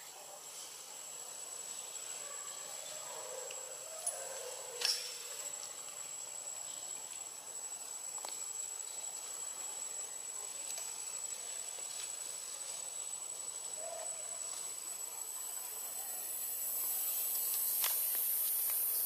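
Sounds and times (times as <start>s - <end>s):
insects hissing: 0.0s - 19.0s
thin steady whine: 0.1s - 19.0s.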